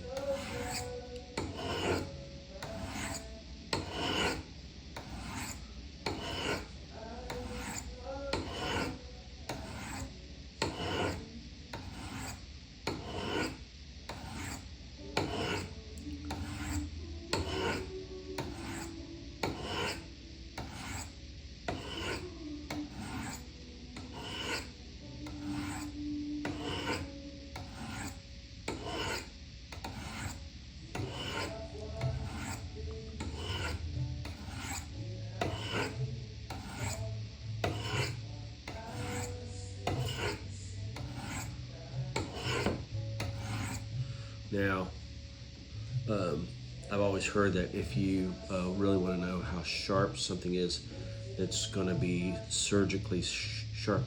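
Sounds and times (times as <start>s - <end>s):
knife rasping on ceramic rods: 0.0s - 44.8s, 51.4s - 54.0s.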